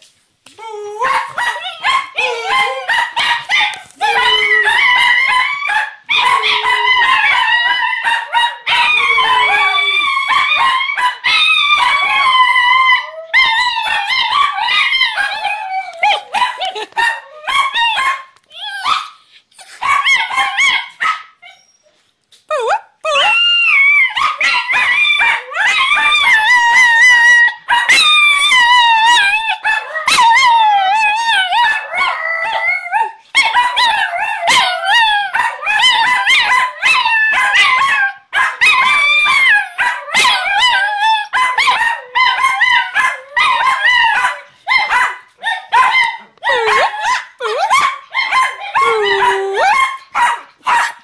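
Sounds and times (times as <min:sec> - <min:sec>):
dogs howling: 0:00.6 - 0:19.1, 0:23.1 - 0:51.0.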